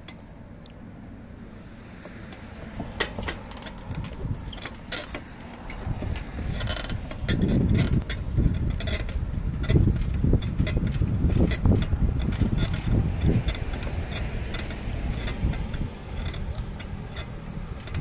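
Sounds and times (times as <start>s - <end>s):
bike clicks and rattles: 0.0s - 0.8s, 2.0s - 18.0s
wind buffeting microphone: 1.5s - 18.0s.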